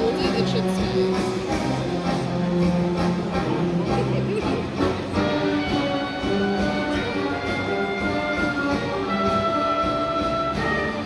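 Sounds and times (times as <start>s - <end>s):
orchestral brass playing: 0.0s - 11.0s.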